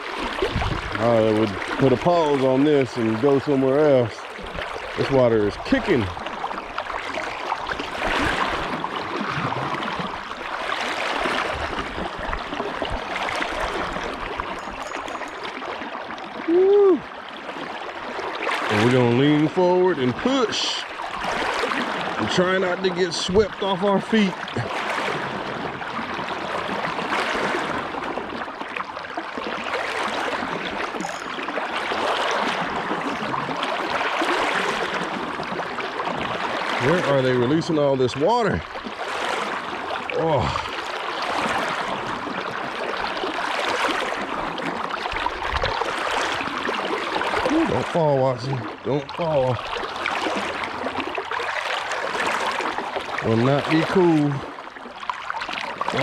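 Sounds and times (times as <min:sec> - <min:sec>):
creek water rushing around legs: 0:00.0 - 0:56.0.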